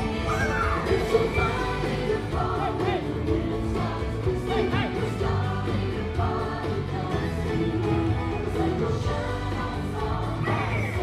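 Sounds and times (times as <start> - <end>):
music with singing voices: 0.0 - 11.0.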